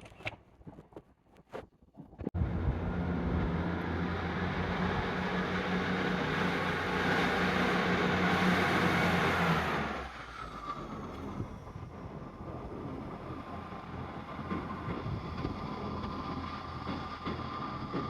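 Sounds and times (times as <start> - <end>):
large vehicle engine hum: 2.4 - 18.0.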